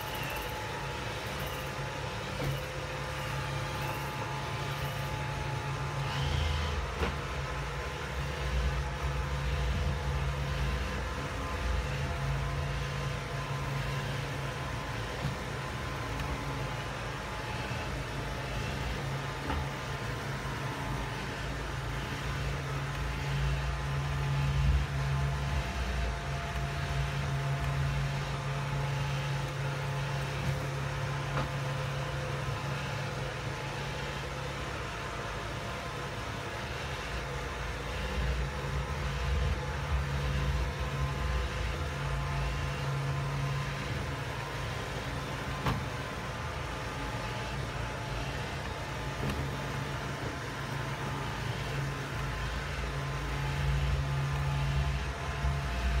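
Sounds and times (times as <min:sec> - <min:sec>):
robot vacuum motor hum: 0:00.0 - 0:56.0.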